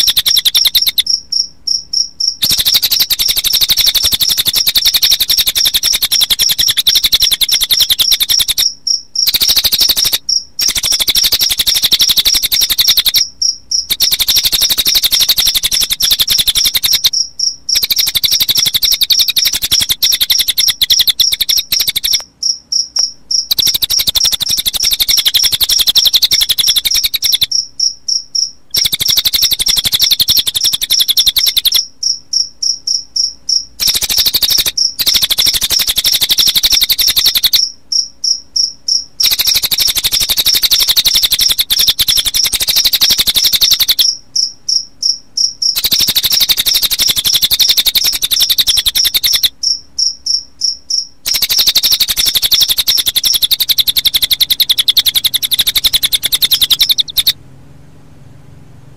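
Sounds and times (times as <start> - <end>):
bird high-pitched trill: 0.0 - 57.4
crickets chirping: 0.0 - 57.4.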